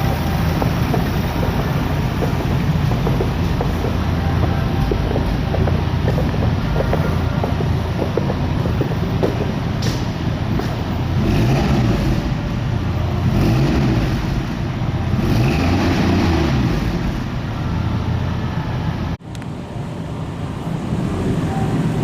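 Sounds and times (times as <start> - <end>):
car engine running: 0.0 - 19.1.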